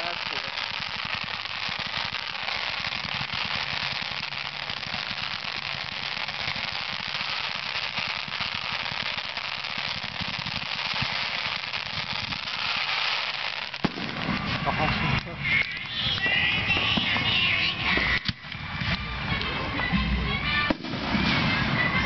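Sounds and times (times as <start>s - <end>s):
fireworks barrage and crackling: 0.0s - 22.0s.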